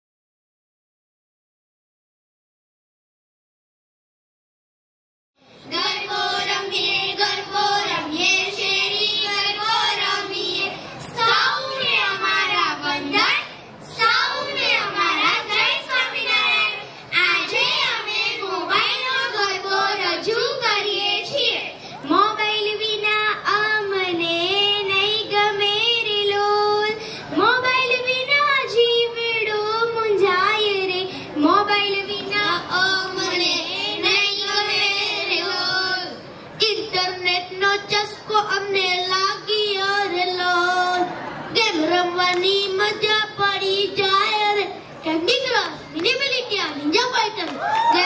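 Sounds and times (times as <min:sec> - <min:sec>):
children singing into microphones: 0:05.5 - 0:44.1.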